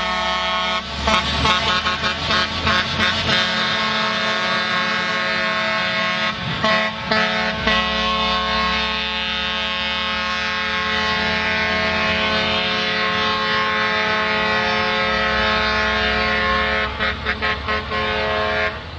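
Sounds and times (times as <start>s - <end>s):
truck air horns: 0.0s - 18.9s.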